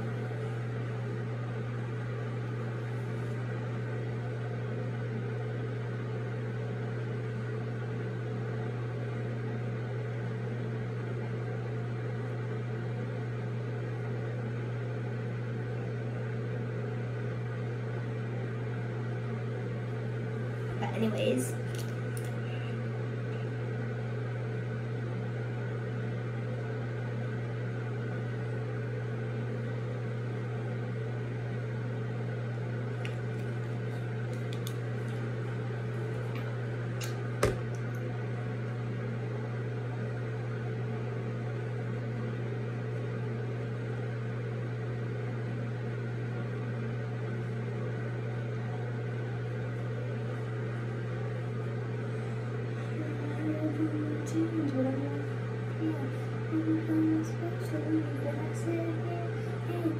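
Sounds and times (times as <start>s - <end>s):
appliance humming: 0.0s - 59.9s.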